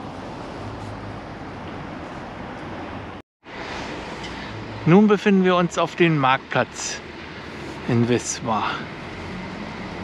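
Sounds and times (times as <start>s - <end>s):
distant traffic: 0.0s - 10.0s.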